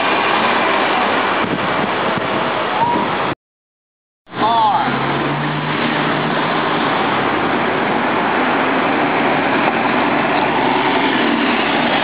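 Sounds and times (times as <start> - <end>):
bus driving past: 0.0 - 3.4, 4.3 - 12.0.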